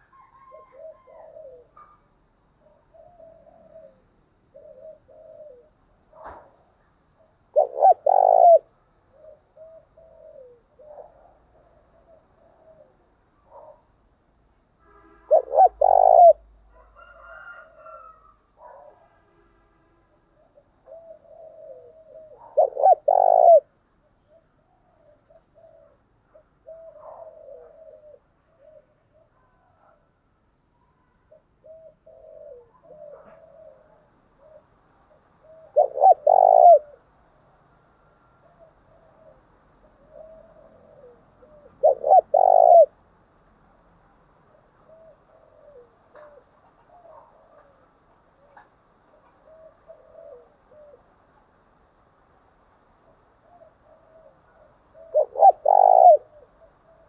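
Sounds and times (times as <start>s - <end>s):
dove cooing: 0.0s - 13.9s, 15.3s - 19.0s, 20.4s - 30.1s, 31.3s - 37.2s, 38.2s - 43.0s, 44.4s - 51.6s, 53.1s - 57.0s.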